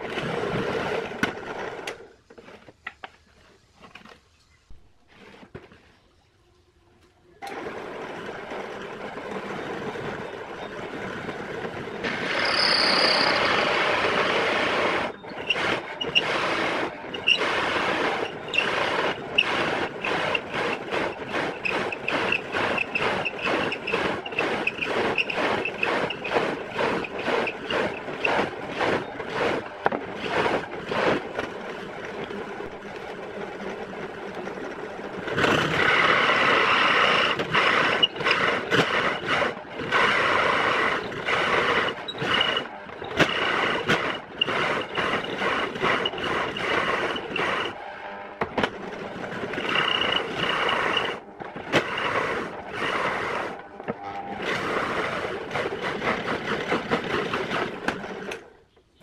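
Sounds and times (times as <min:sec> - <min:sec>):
drill press cutting fibreboard: 0:07.4 - 0:58.5.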